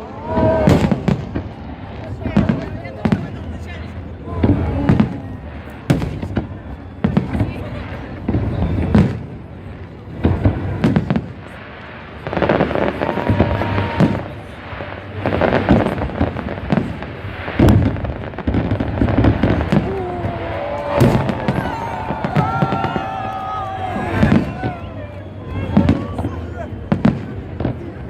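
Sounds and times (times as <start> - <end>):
firework crackling: 0.0 - 28.0
people's voices: 0.0 - 28.0
firework booms: 0.2 - 28.0.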